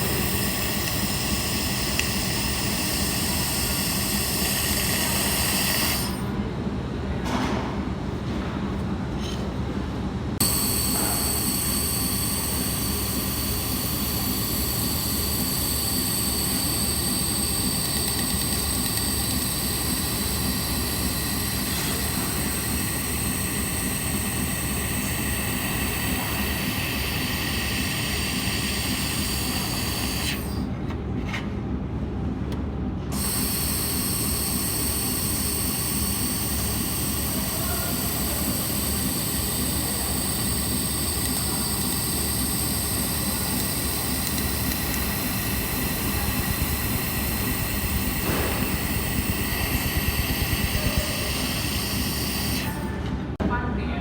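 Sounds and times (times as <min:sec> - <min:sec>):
high-pitched whine and hiss: 0:00.0 - 0:06.3, 0:10.4 - 0:30.6, 0:33.2 - 0:52.9
welding machine low hum: 0:00.0 - 0:06.4, 0:10.4 - 0:30.8, 0:32.8 - 0:53.4.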